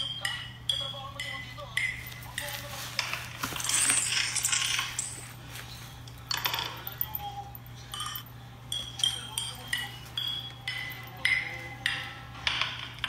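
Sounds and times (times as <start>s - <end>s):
metallic clinking and jingling: 1.8s - 5.4s, 6.1s - 13.0s.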